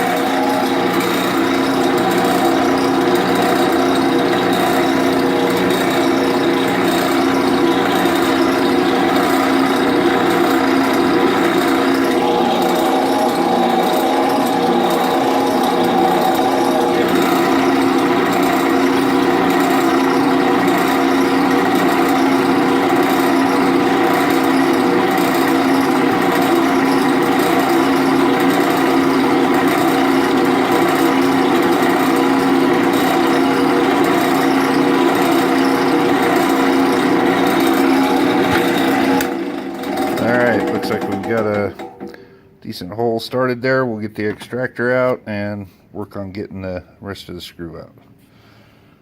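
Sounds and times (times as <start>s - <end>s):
drill press drilling into metal: 0.0s - 42.3s.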